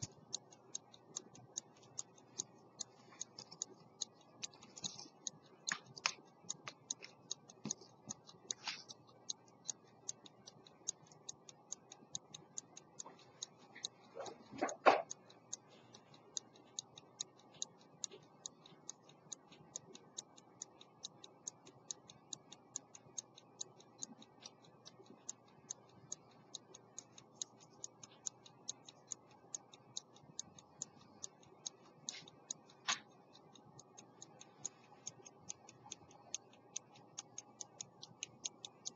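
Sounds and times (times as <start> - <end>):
pocket watch ticking: 0.0 - 38.9.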